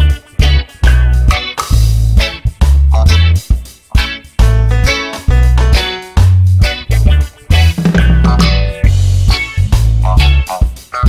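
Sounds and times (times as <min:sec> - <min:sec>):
upbeat funk music: 0:00.0 - 0:11.0.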